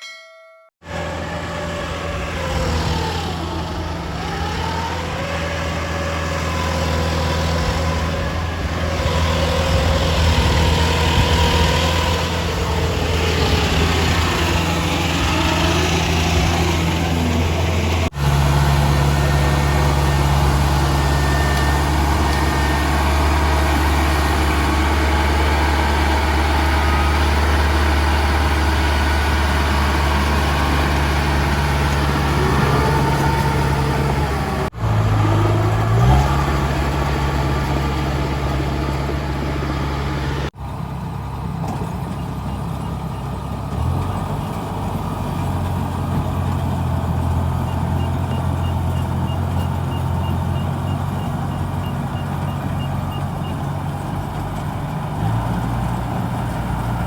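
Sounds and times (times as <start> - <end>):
diesel engine running: 0.8 - 57.0.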